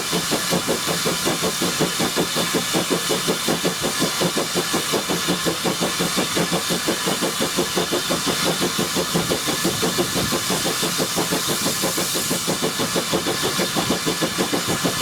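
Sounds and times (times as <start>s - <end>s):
steam hiss: 0.0s - 15.0s
train engine pulsing: 0.0s - 15.0s.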